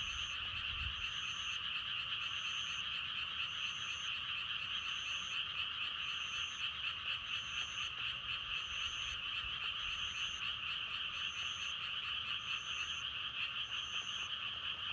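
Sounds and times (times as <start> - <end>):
frogs croaking chorus: 0.0 - 14.9.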